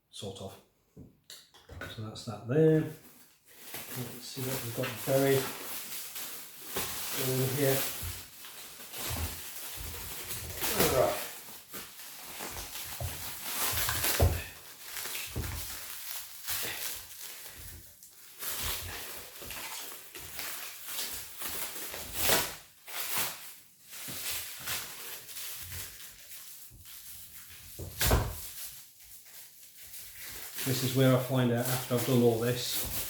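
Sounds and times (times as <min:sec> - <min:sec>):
rustling packing in cardboard box: 0:02.8 - 0:33.0.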